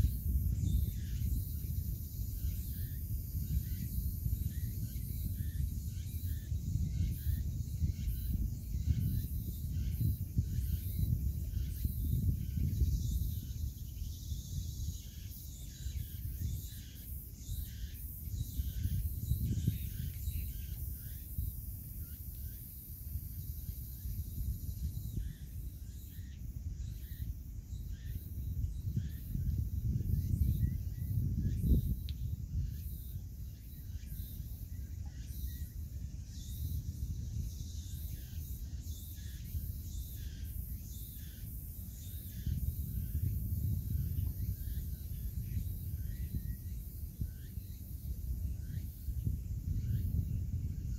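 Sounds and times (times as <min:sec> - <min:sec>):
insect chirring: 0:00.0 - 0:50.9
wind buffeting microphone: 0:00.0 - 0:50.9.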